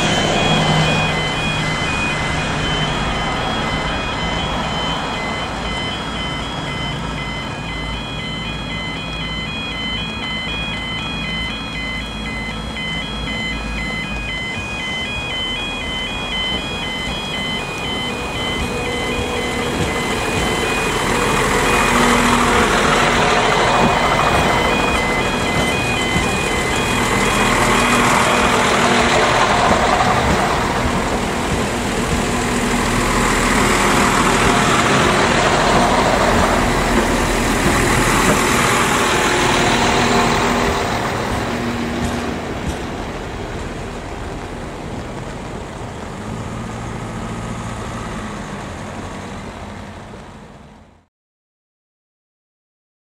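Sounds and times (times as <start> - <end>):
train wheels rumbling on rails: 0.0 - 51.0
diesel engines running: 0.0 - 51.1.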